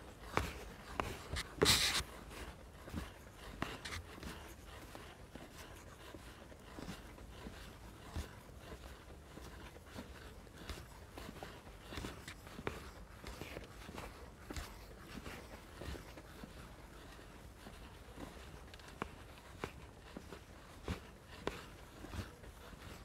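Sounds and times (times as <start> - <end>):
footsteps walking: 0.0 - 23.0.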